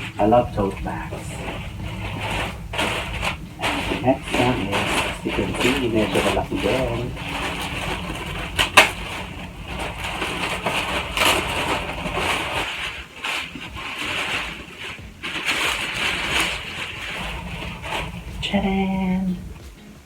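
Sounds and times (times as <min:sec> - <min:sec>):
bag wrapping rustling and crinkling: 0:00.0 - 0:20.0
sharp crackle: 0:00.0 - 0:20.0.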